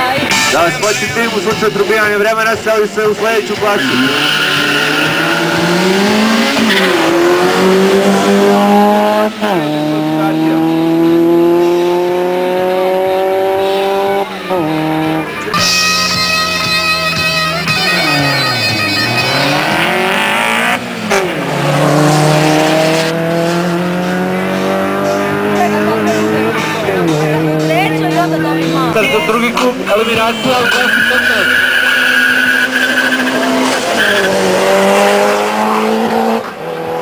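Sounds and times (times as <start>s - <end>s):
drag racing engines at full throttle: 0.0s - 37.0s.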